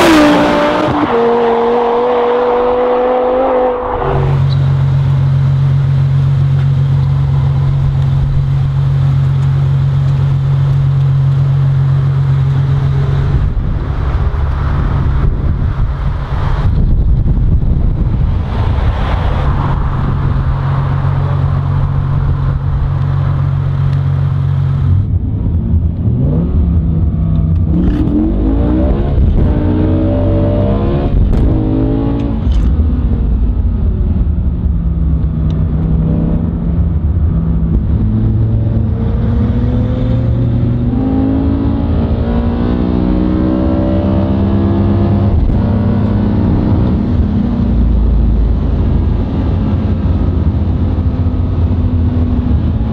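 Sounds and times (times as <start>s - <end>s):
car accelerating with upshifts: 0.0s - 34.3s, 34.9s - 52.9s
car engine and exhaust revving: 0.0s - 52.9s.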